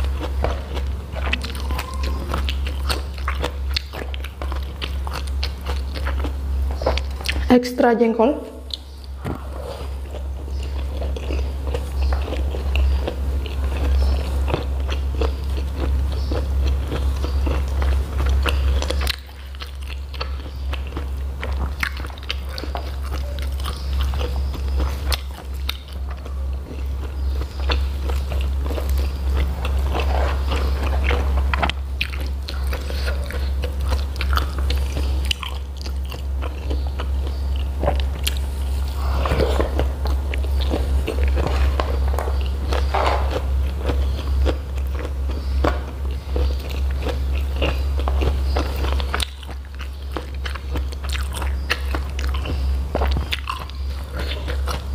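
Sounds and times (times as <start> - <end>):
close-miked chewing and crunching: 0.0 - 7.8, 8.5 - 54.9
steady low hum: 0.0 - 54.9.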